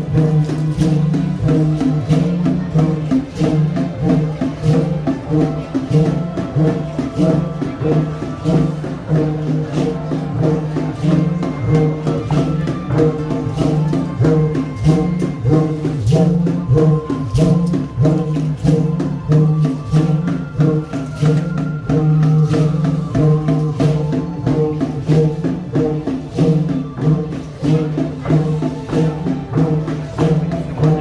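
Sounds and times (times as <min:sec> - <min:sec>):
tambourine shakes and strikes: 0:00.0 - 0:31.0
upbeat folk music: 0:00.0 - 0:31.0.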